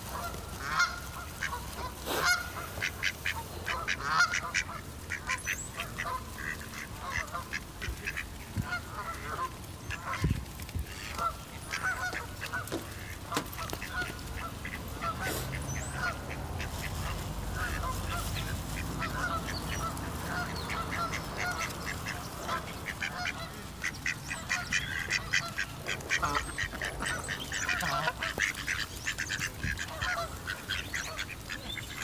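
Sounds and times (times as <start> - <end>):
birds calling rapidly: 0.1 - 32.0.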